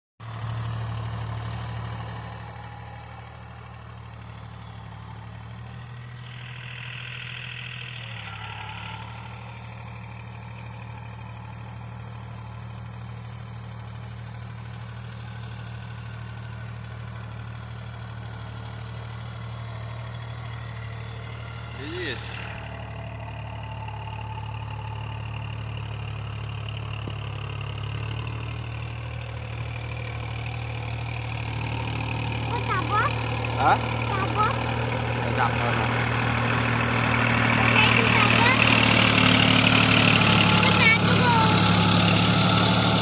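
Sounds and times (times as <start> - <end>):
tractor engine idling: 0.2 - 43.0.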